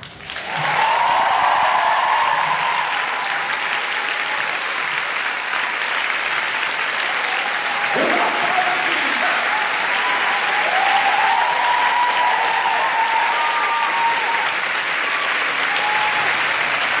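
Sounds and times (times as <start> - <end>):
audience applauding: 0.0 - 17.0
audience cheering: 0.2 - 17.0.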